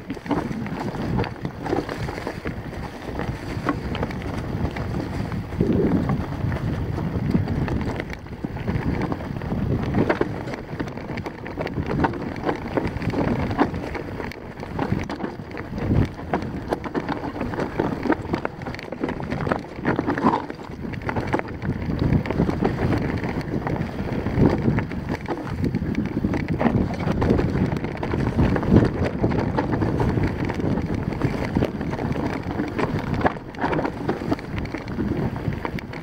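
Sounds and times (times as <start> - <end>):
bike rattling and knocking: 0.0 - 36.0
tyres crunching over loose stones: 0.0 - 36.0
wind on microphone: 0.0 - 36.0.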